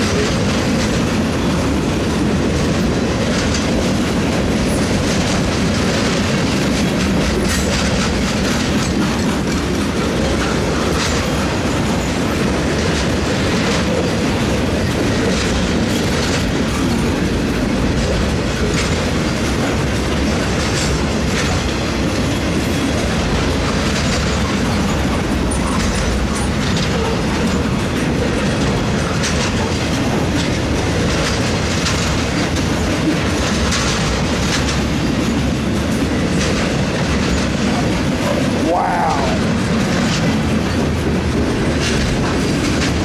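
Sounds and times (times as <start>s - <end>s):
wheels clicking over track: 0.0s - 38.6s, 39.2s - 43.0s
train wheels rumbling on rail: 0.0s - 43.0s.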